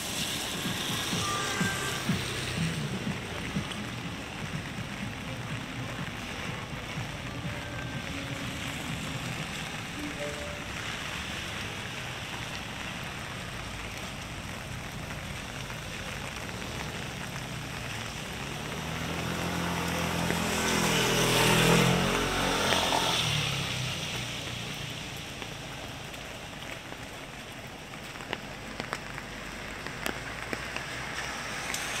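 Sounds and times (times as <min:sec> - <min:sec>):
rain on a wet street: 0:00.0 - 0:32.0
vehicle passing on wet road: 0:00.0 - 0:32.0.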